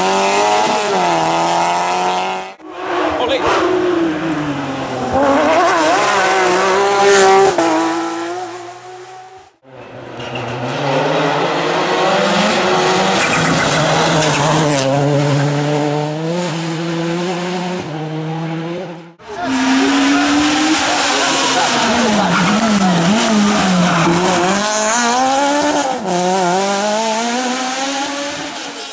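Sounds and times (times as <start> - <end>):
rally car engine at full throttle: 0.0 - 28.9
rally car engine revving through gears: 0.0 - 28.9.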